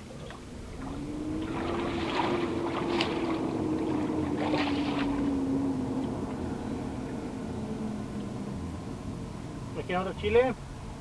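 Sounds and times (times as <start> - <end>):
passing motor engine droning: 0.0 - 11.0.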